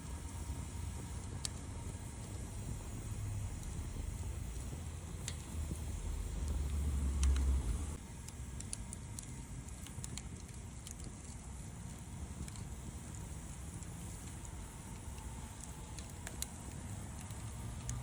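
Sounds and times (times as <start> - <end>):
campfire crackles and pops: 0.0 - 18.0
low steady rumble: 0.0 - 18.0.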